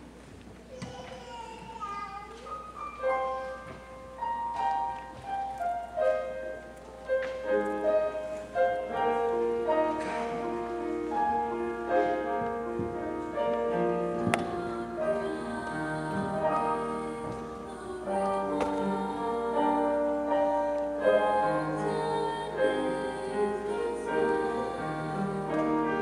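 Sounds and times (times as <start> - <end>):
piano playing: 2.0 - 26.0.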